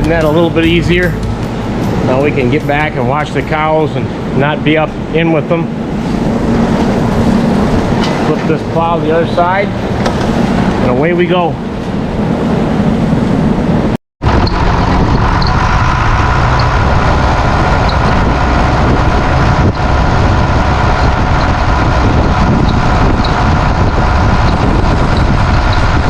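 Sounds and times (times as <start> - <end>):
tractor engine running: 0.0 - 11.0, 11.6 - 26.0.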